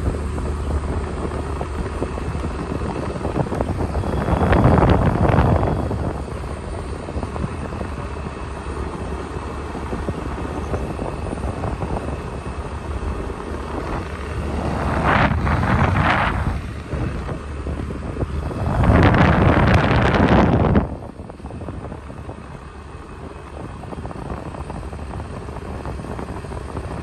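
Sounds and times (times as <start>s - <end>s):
road rumble: 0.0s - 27.0s
wind buffeting: 0.0s - 27.0s.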